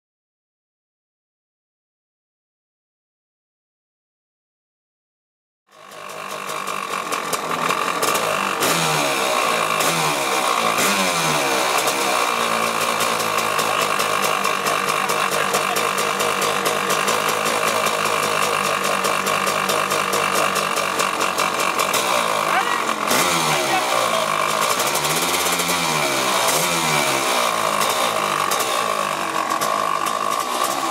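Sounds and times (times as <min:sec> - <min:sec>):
two-stroke motorcycle engine running: 0:05.7 - 0:30.9.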